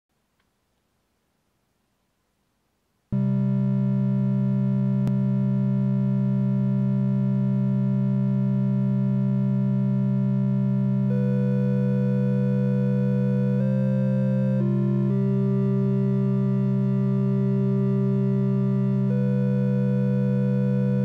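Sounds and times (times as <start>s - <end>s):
synthesizer drone chord: 3.2s - 21.0s.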